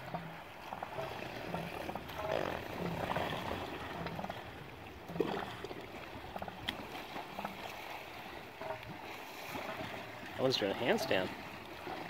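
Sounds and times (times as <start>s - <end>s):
seals splashing in water: 0.0s - 12.0s
steady watery wash: 0.0s - 12.0s.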